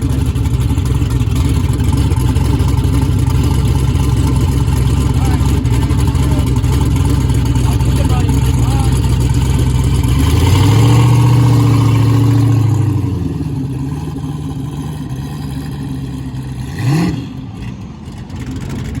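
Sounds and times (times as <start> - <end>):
engine revving: 0.0 - 19.0
engine running: 0.0 - 19.0.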